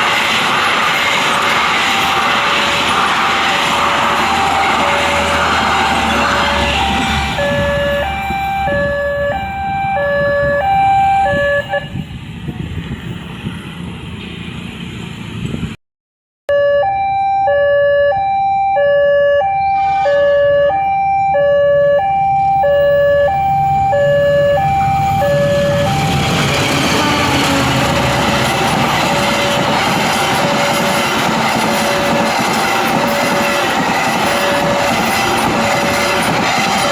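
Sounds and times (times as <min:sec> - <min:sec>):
passing train rumble: 0:00.0 - 0:15.8, 0:19.0 - 0:36.9.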